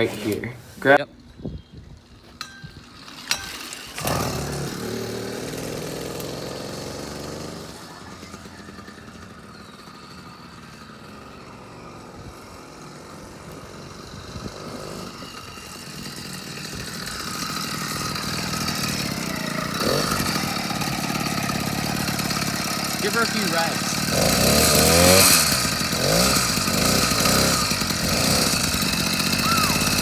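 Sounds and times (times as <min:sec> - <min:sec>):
small motor running: 0:02.1 - 0:30.0.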